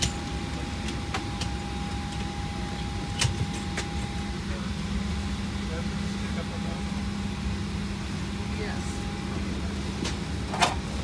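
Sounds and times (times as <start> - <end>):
cabin ventilation hum: 0.0 - 11.0.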